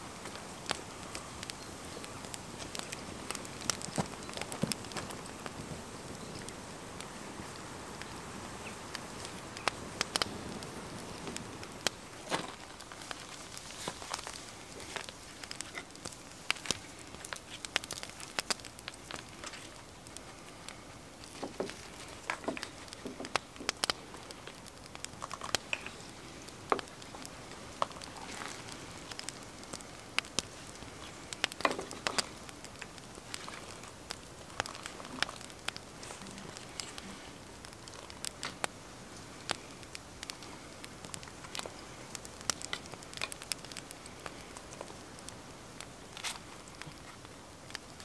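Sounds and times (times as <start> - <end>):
campfire crackling and popping: 0.0 - 48.0
faint steady hiss: 0.0 - 48.0.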